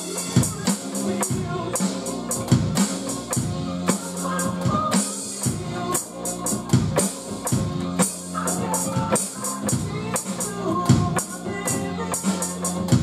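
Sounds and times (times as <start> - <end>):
backing song: 0.0 - 13.0
electronic drum and cymbal hits: 0.0 - 13.0.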